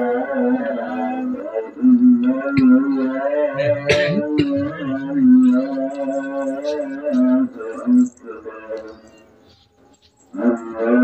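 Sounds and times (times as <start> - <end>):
voice chanting long notes: 0.0 - 9.2, 10.4 - 11.0.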